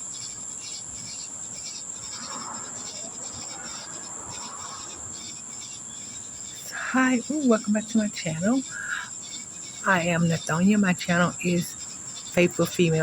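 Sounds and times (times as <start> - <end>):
cricket chirping: 0.0 - 13.0
insects trilling: 0.0 - 13.0.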